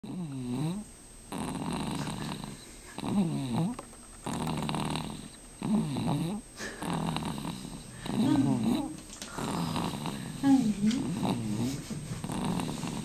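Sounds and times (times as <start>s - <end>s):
dog snoring: 0.0s - 13.0s.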